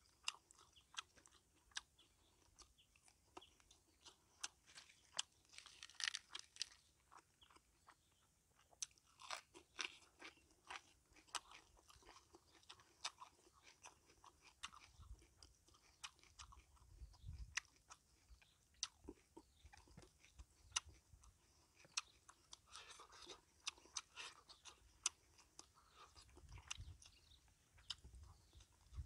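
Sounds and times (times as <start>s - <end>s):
crisp crunching while eating: 0.0s - 28.9s
wet chewing: 0.0s - 29.0s.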